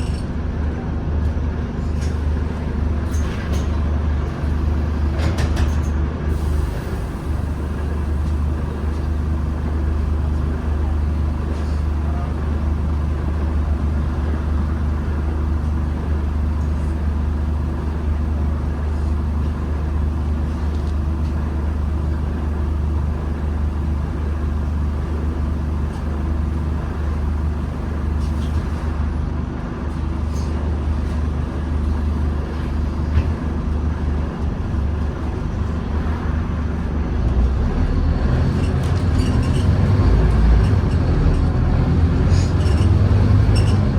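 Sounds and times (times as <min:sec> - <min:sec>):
bus diesel engine drone: 0:00.0 - 0:43.9
road noise: 0:00.0 - 0:43.9.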